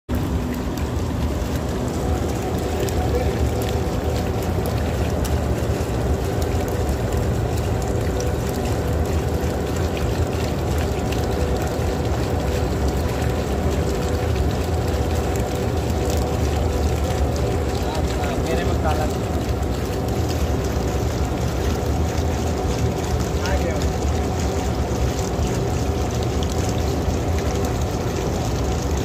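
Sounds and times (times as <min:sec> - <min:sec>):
faint steady hum: 0:00.1 - 0:29.0
low rumbling background noise: 0:00.1 - 0:29.0.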